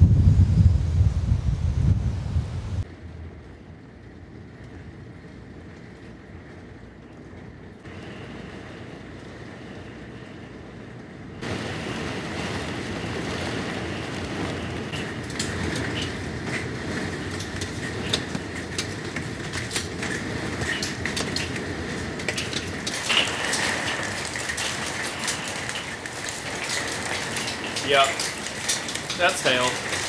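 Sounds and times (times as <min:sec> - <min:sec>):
hail ticking on hard surfaces: 0:02.8 - 0:30.0
heavy rain downpour: 0:02.8 - 0:30.0.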